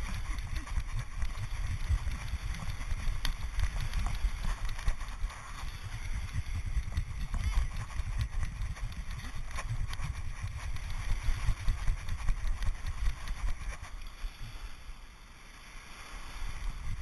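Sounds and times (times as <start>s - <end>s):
wind on microphone: 0.0s - 14.9s, 15.7s - 17.0s
surf hissing: 0.0s - 17.0s.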